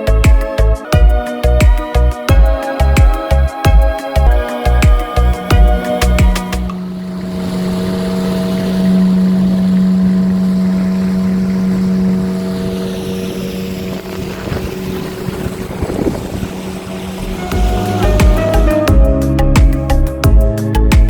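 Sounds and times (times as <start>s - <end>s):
boat engine droning: 0.0s - 21.0s
water rushing: 0.0s - 21.0s
wind: 0.0s - 21.0s.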